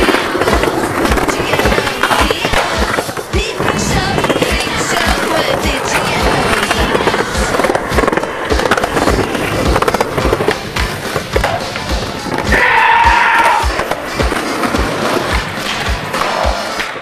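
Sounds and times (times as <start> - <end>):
background music with beat: 0.0 - 17.0
skateboard clacks: 0.0 - 17.0
skateboard wheels rolling on concrete: 0.0 - 17.0.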